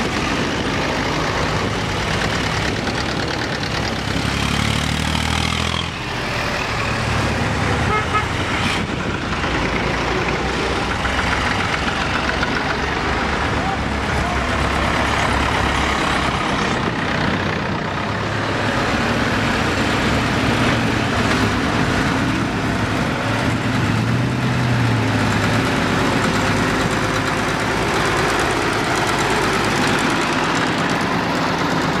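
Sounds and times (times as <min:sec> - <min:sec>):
tractor engines running: 0:00.0 - 0:32.0.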